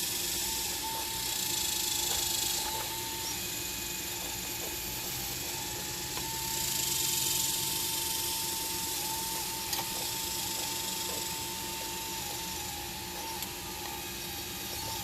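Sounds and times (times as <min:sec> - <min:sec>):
hydraulic pump whine and hiss: 0:00.0 - 0:15.0.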